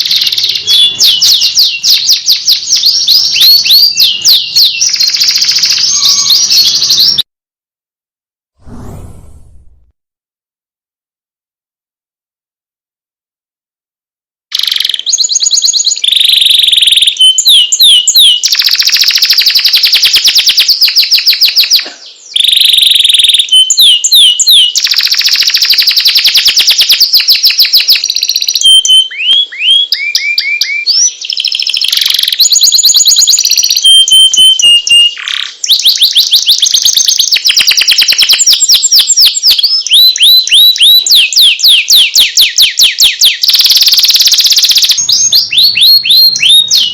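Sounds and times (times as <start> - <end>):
canary singing trills: 0.0 - 7.2, 14.5 - 46.9.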